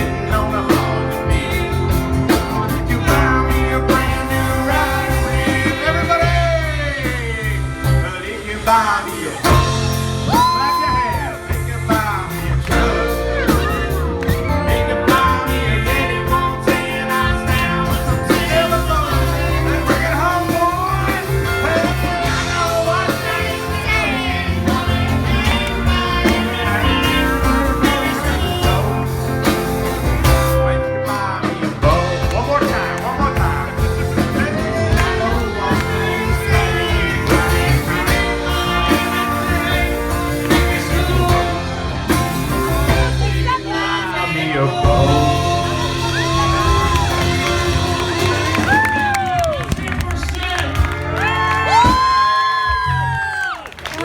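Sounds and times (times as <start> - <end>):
person singing: 0.0 - 49.7
low rhythm section: 0.0 - 53.2
electric guitar: 0.0 - 54.0.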